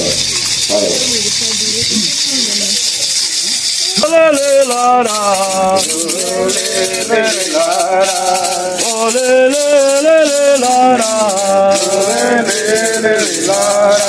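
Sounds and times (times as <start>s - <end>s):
maracas shaken: 0.0s - 14.0s
voices singing a chant: 0.0s - 14.0s.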